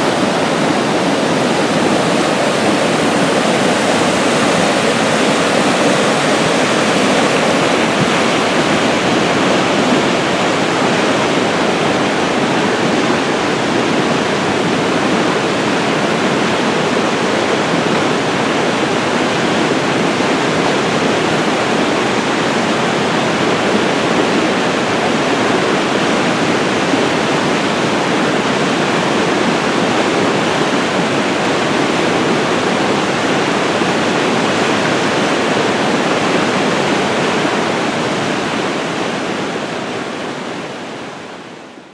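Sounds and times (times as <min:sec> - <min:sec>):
fast water rushing through rapids: 0:00.0 - 0:41.9.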